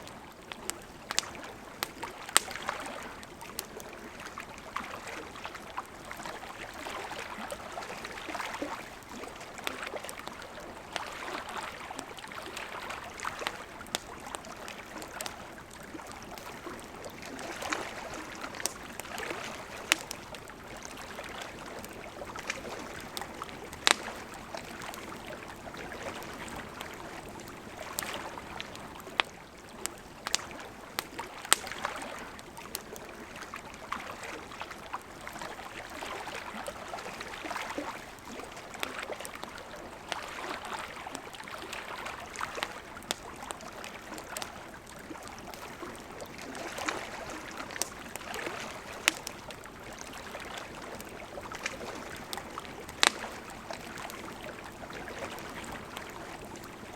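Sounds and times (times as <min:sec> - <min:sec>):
campfire crackling and popping: 0:00.0 - 0:56.9
lake waves lapping at shore: 0:00.0 - 0:56.9.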